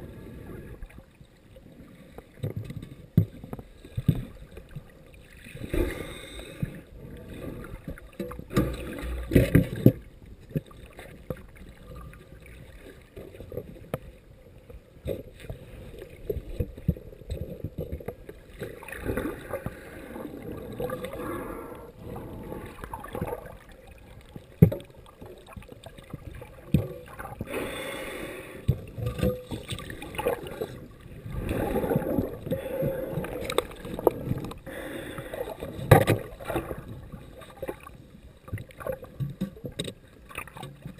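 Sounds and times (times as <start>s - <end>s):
water surging and bubbling: 0.0s - 40.9s.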